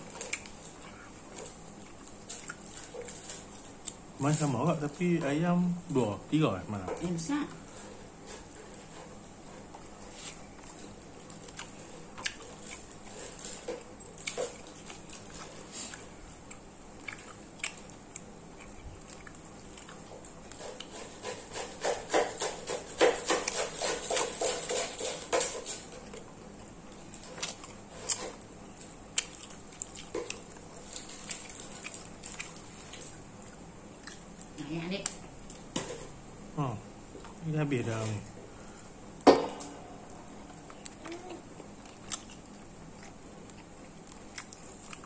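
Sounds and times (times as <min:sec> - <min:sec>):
person chewing: 0:00.0 - 0:04.5, 0:07.6 - 0:34.6, 0:40.0 - 0:45.0.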